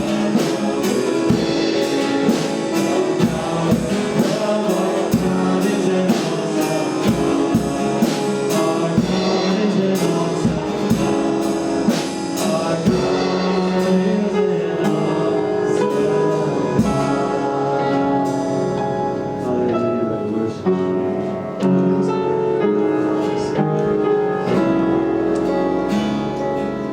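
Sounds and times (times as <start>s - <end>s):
worship band music: 0.0s - 26.9s.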